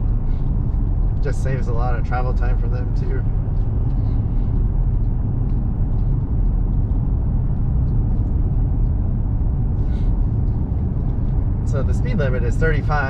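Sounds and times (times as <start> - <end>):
truck cabin road and engine rumble: 0.0 - 13.0.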